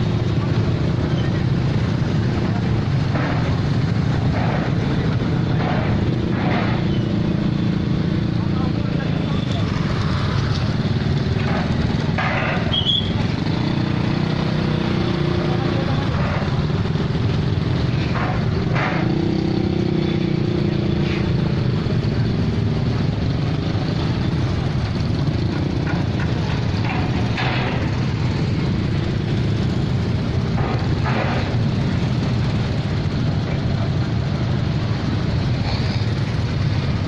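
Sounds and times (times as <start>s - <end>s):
low vehicle engine rumble: 0.0s - 37.0s.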